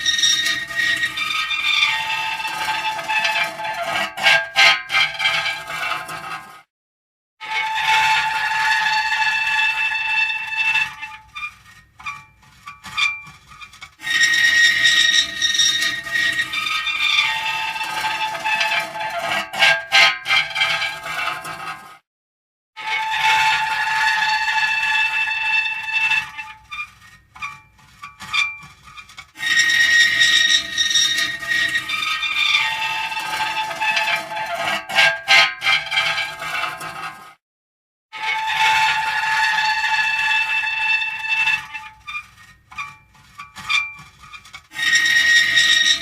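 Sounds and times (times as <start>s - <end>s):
metal creaking and squealing: 0.0s - 6.6s, 7.4s - 21.9s, 22.8s - 37.2s, 38.2s - 46.0s.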